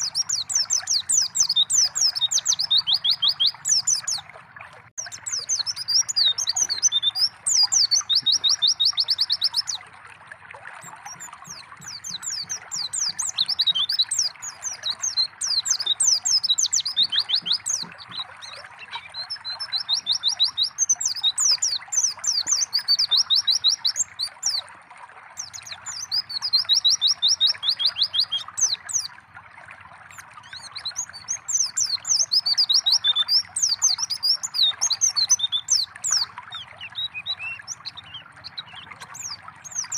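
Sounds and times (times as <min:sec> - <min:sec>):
bird singing high chirps: 0:00.0 - 0:04.2, 0:05.0 - 0:09.8, 0:10.8 - 0:24.6, 0:25.4 - 0:29.1, 0:30.2 - 0:39.9
running water trickle: 0:00.0 - 0:39.9.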